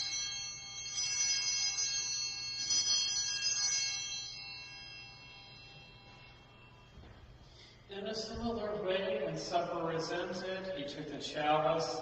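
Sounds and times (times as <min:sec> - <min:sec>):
altar bells ringing: 0:00.0 - 0:10.9.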